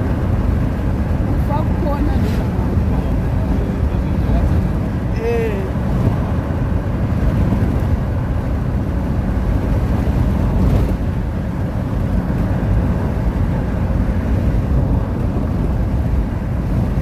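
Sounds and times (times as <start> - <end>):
rushing air: 0.0 - 17.0
small aircraft engine rumble: 0.0 - 17.0.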